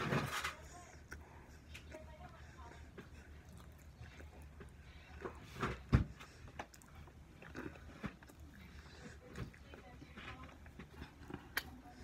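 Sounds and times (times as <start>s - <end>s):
chewing mouth sounds: 0.7s - 5.4s, 6.1s - 12.0s.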